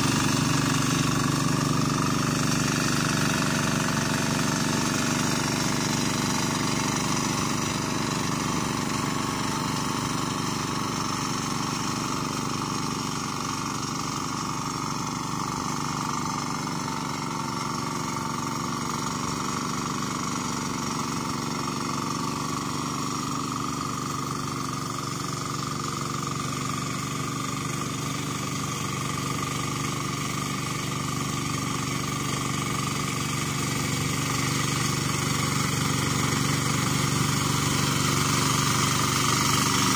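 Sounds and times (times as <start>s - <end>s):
diesel tiller engine running: 0.0s - 39.9s.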